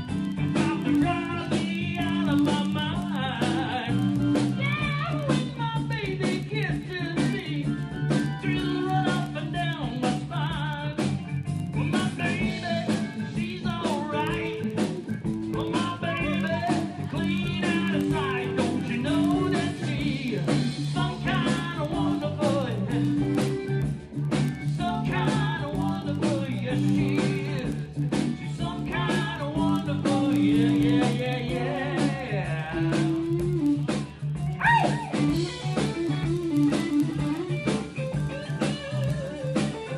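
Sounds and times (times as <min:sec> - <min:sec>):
person singing: 0:00.0 - 0:23.9, 0:24.6 - 0:39.9
bass guitar: 0:00.0 - 0:39.9
drums: 0:00.0 - 0:39.9
electric guitar: 0:00.0 - 0:39.9.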